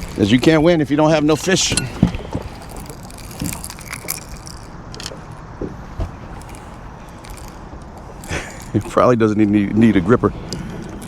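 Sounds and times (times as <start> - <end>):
fishing gear knocking and rattling: 0.0 - 9.0.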